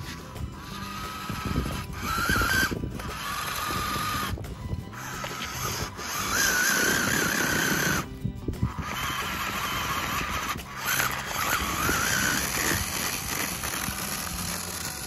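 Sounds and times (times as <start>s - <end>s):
background music: 0.0s - 15.0s
electric motor whining: 0.0s - 15.0s
wheels digging into dirt: 0.0s - 15.0s.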